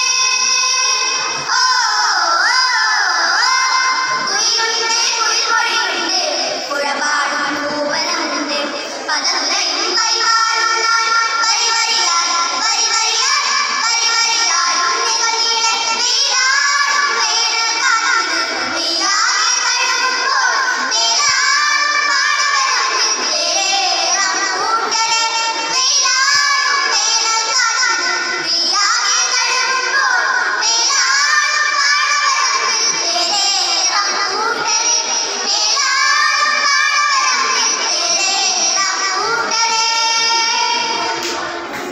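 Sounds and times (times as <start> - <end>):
children singing into microphones: 0.0 - 41.9.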